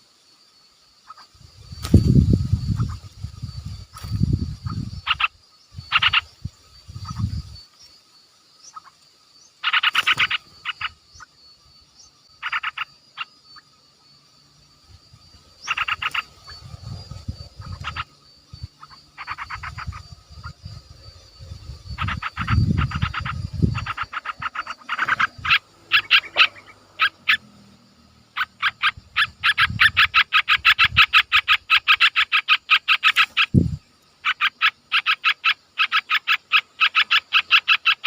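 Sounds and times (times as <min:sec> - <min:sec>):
faint insect-like tones: 0:00.0 - 0:38.0
rattling animal calls: 0:01.0 - 0:07.6, 0:09.6 - 0:11.3, 0:12.4 - 0:13.6, 0:15.6 - 0:38.0.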